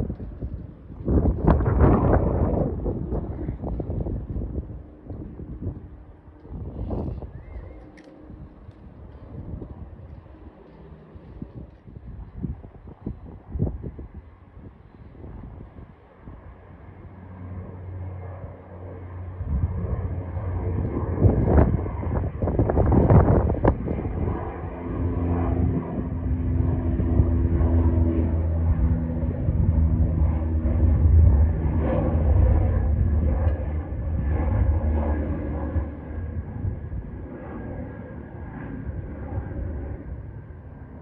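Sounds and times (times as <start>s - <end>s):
airliner engine rumble: 0.0s - 41.0s.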